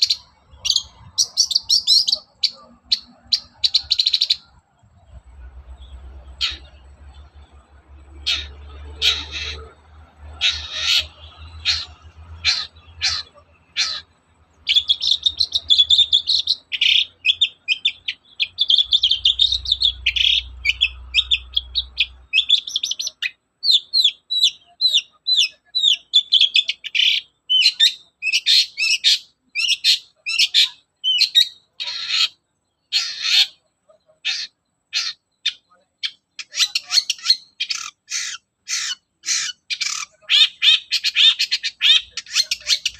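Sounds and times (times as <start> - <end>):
bird harsh calls: 0.0 - 42.9
shrike singing: 0.0 - 42.9.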